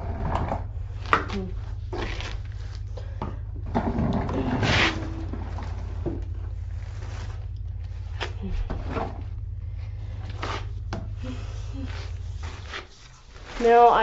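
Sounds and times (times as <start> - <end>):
nozzle knocking and scraping: 0.0 - 14.0
shop vac running: 0.0 - 14.0.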